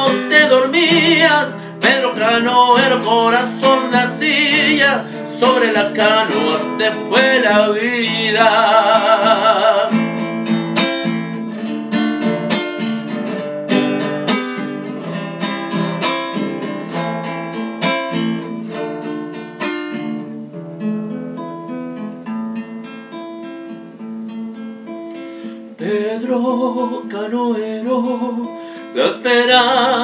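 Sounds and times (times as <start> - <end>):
classical guitar playing: 0.0 - 30.0.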